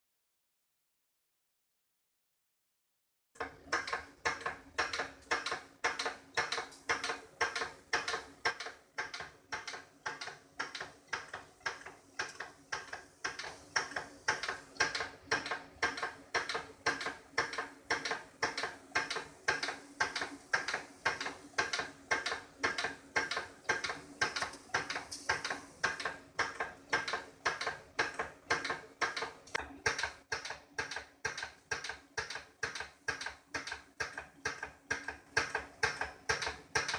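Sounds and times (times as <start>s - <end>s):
toy steam engine clicking: 3.7s - 36.9s.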